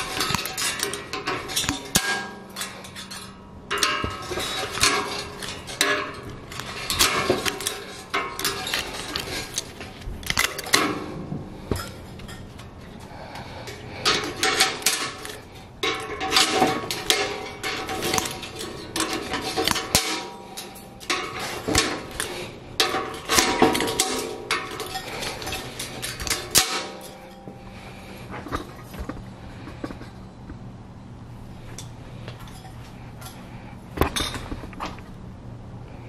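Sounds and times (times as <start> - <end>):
metallic clicks of wire and pliers: 0.0 - 11.1, 11.7 - 30.2
wire scraping on rebar: 0.0 - 30.3.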